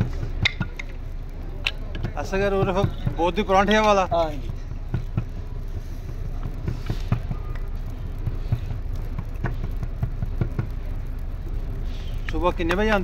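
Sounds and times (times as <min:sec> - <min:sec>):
light clicks and taps: 0:00.0 - 0:13.0
low rumble: 0:00.0 - 0:13.0.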